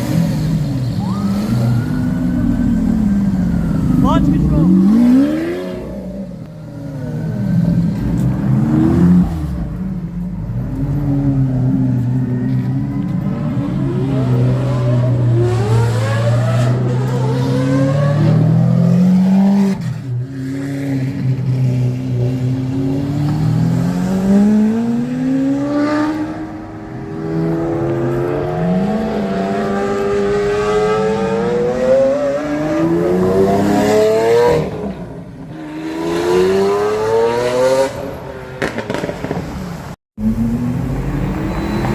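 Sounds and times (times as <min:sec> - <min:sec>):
sports car engines revving: 0:00.0 - 0:41.9.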